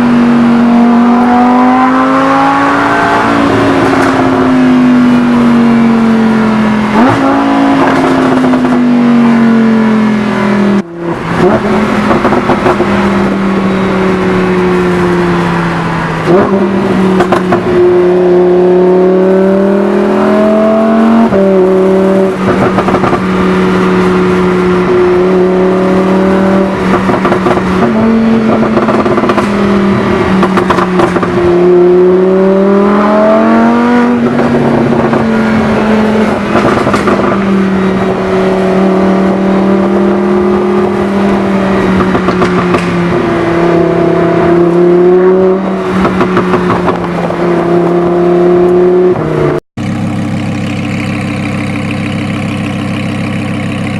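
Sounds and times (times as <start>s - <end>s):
sports car engine under throttle: 0.0s - 53.9s.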